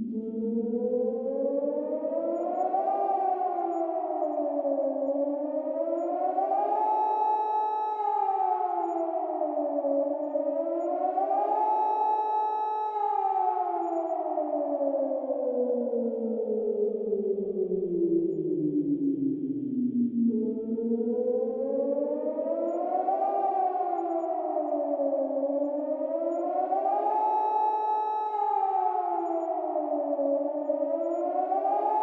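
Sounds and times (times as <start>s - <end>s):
warning siren wailing: 0.0s - 32.0s.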